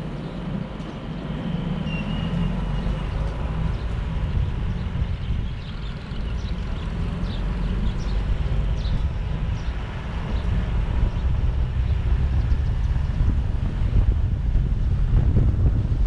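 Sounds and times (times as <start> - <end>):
vehicle road rumble: 0.0 - 16.0
wind buffeting microphone: 2.5 - 16.0.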